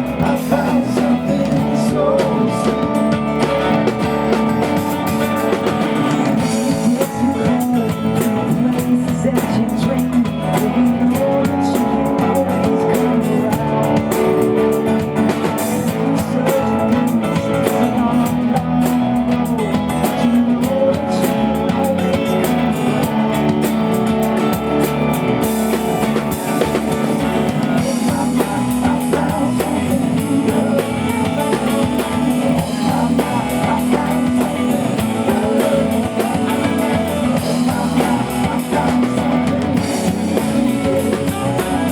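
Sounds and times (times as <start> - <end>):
live band playing: 0.0 - 41.9.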